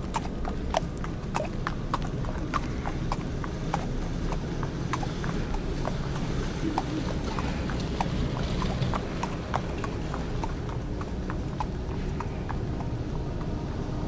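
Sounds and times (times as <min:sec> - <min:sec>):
horse hooves clip-clopping: 0:00.0 - 0:14.0.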